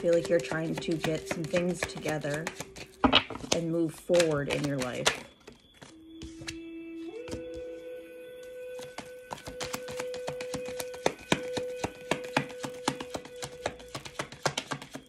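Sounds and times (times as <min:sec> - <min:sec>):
cards being shuffled: 0:00.0 - 0:06.6, 0:08.8 - 0:15.0.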